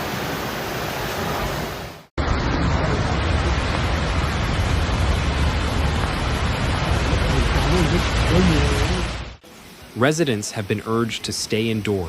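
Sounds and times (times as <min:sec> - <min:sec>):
floodwater rushing: 0:00.0 - 0:12.0
heavy rain: 0:00.0 - 0:12.0.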